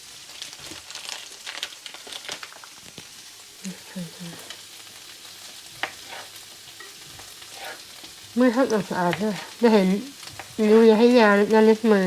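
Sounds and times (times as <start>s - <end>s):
mushrooms sizzling in oil: 0.0s - 12.0s.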